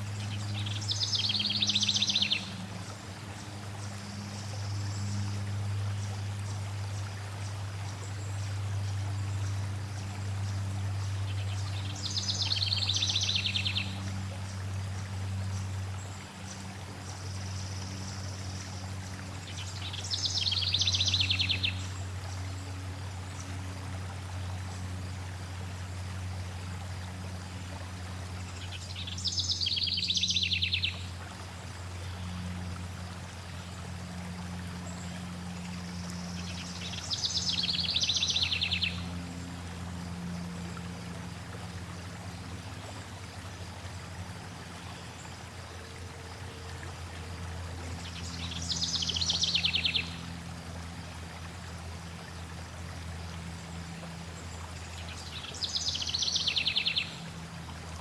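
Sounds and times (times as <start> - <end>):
low even hum: 0.0 - 58.0
stream water flowing: 0.0 - 58.0.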